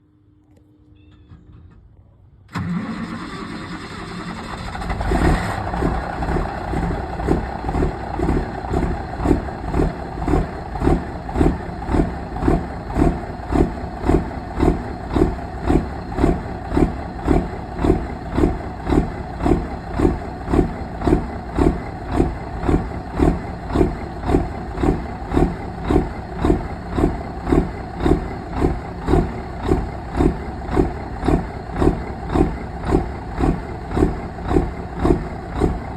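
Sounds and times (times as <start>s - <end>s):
diesel engine cranking and idling: 1.0s - 35.9s.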